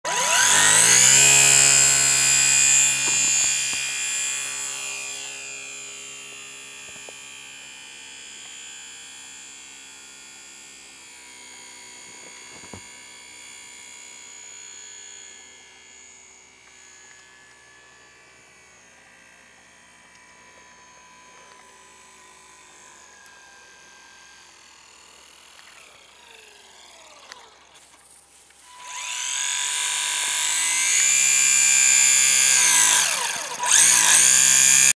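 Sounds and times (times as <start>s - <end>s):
model plane propeller whine: 0.1s - 34.9s.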